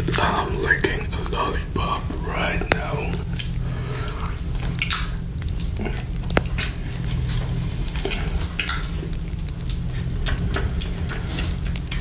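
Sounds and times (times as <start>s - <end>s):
crackling fire: 0.0s - 12.0s
wet licking and sucking sounds: 0.0s - 12.0s.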